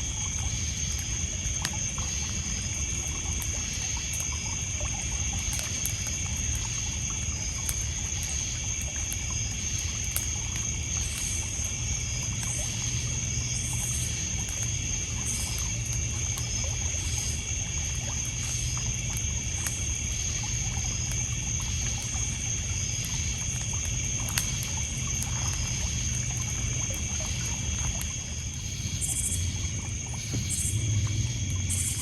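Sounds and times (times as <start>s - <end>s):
campfire crackling: 0.0s - 32.0s
crickets and insects chirping: 0.0s - 32.0s
water lapping on pebbles: 0.0s - 32.0s.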